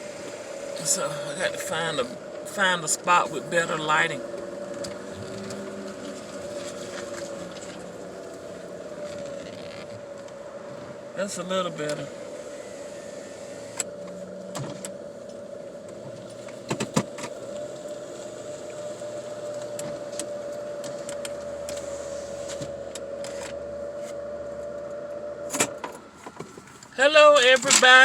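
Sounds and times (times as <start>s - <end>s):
car engine humming: 0.0s - 28.0s.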